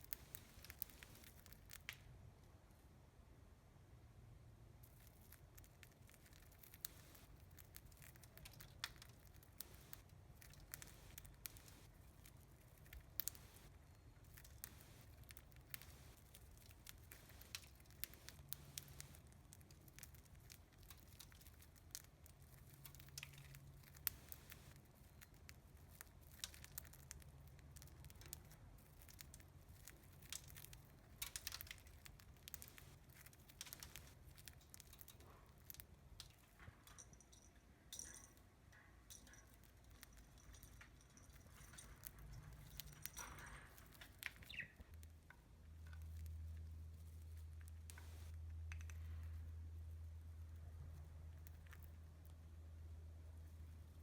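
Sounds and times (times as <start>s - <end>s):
birds cracking seeds: 0.0s - 2.1s, 4.8s - 36.5s, 39.1s - 49.4s.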